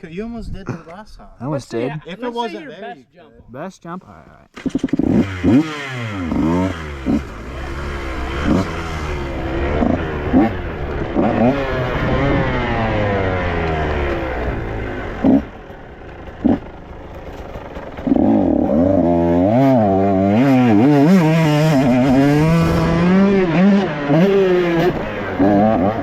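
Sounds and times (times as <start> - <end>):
dirt bike engine revving: 4.5 - 26.0.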